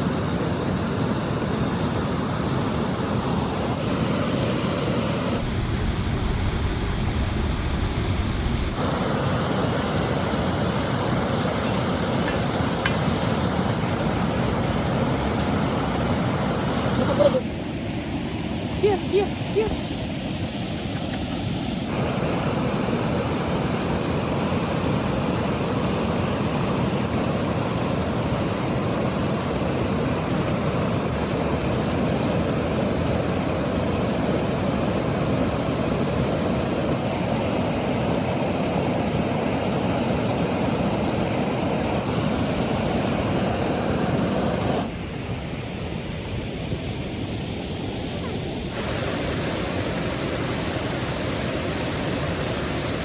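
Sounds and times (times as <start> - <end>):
river rushing: 0.0 - 5.5, 8.8 - 53.0.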